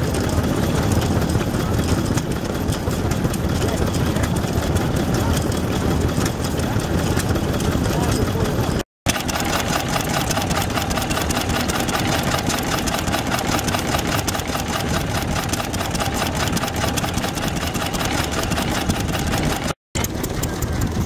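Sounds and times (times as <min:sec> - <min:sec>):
stationary engine running: 0:00.0 - 0:21.0.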